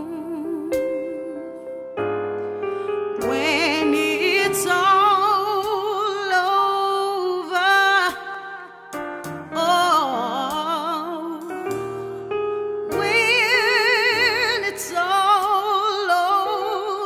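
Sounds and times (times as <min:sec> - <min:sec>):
person singing with vibrato: 0:00.0 - 0:01.9, 0:02.9 - 0:11.9, 0:12.9 - 0:17.0.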